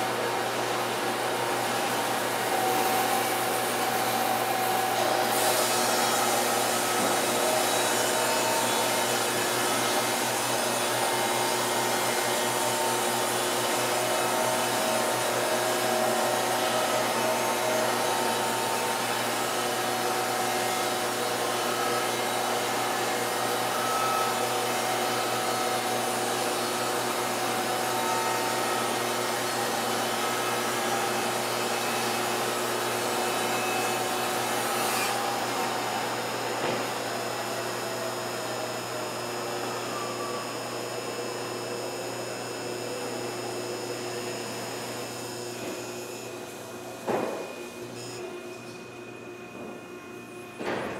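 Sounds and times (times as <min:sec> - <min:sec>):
band sawmill cutting log: 0:00.0 - 0:48.7
dust collection blower: 0:00.0 - 0:50.9.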